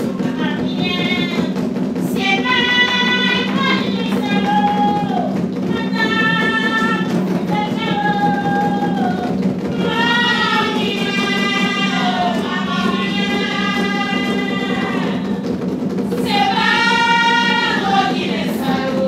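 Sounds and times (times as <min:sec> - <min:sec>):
women singing together: 0:00.0 - 0:15.5, 0:16.1 - 0:19.0.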